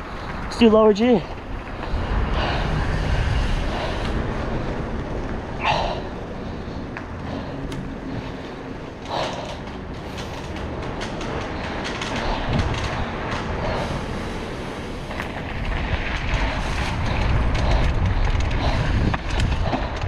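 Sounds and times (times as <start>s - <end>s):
bike rattling and clattering: 0.0s - 20.0s
bike tyres on dirt and rocks: 0.0s - 20.0s
heavy low rumble: 0.0s - 20.0s.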